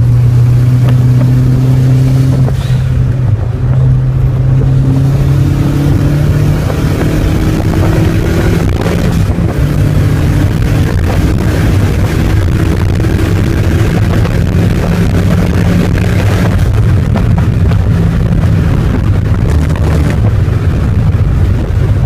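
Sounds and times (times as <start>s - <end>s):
car engine under full throttle: 0.0s - 22.0s
wind and tyre noise: 0.0s - 22.0s.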